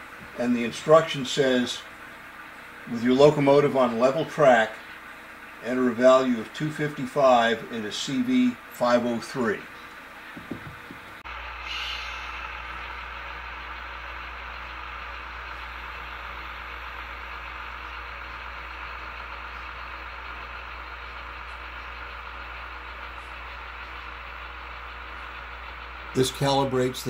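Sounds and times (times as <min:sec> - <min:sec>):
diesel engine sound through small speaker: 0:00.0 - 0:27.0.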